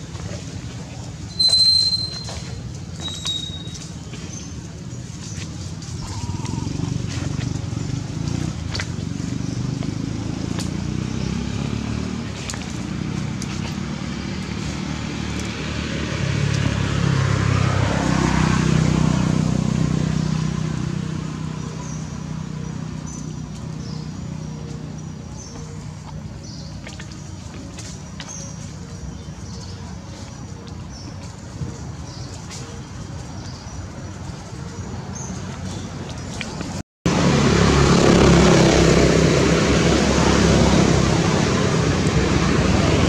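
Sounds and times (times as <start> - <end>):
vehicle engine passing: 3.8 - 43.0.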